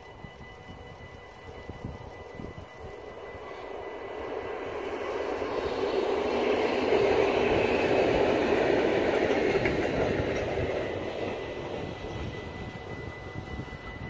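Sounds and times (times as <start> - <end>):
electric train rumbling past: 0.0 - 14.0.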